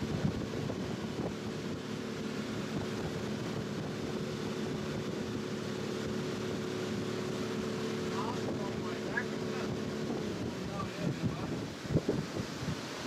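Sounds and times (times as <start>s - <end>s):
wind noise on microphone: 0.0s - 7.5s, 8.2s - 13.0s
motorboat engine running: 0.0s - 13.0s.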